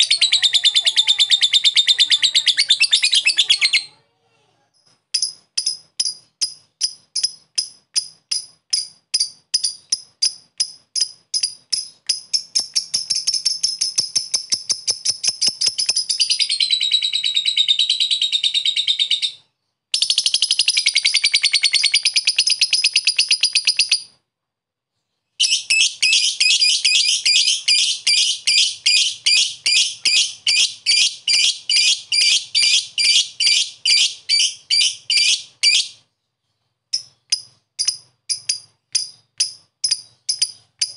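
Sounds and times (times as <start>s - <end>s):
lovebird chirping chatter: 0.0s - 4.1s, 4.8s - 24.2s, 25.4s - 36.0s.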